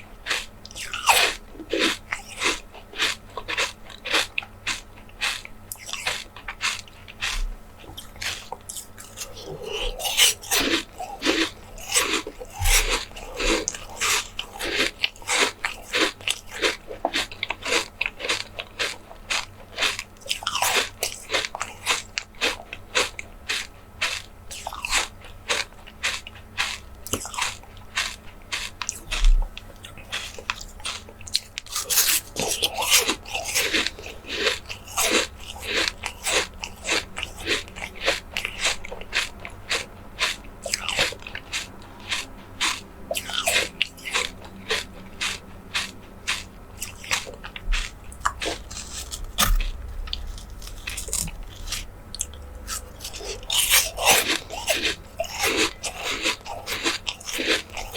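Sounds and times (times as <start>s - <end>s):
wet chewing and biting: 0.0s - 57.9s.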